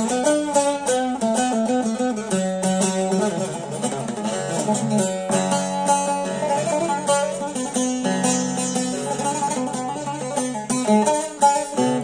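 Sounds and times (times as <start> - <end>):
long-necked lute playing: 0.0 - 12.0.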